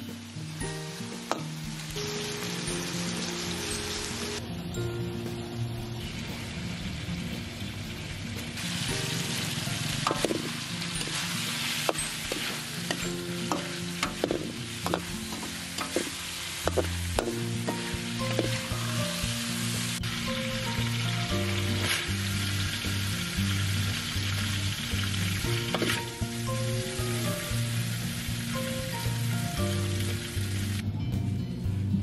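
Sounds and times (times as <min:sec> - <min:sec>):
food sizzling in a hot pan: 0:00.0 - 0:04.4, 0:05.5 - 0:30.8
soft background music: 0:00.0 - 0:32.0.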